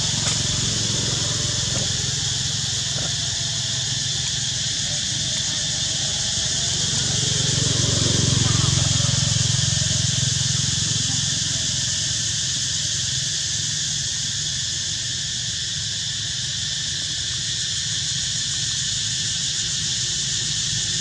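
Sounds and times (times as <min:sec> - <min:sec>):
high hiss-like drone: 0:00.0 - 0:21.0.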